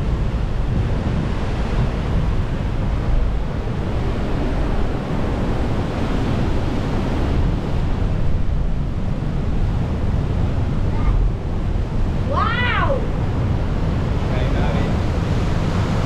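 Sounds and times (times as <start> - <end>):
ocean surf rushing: 0.0 - 16.0
wind buffeting microphone: 0.0 - 16.0.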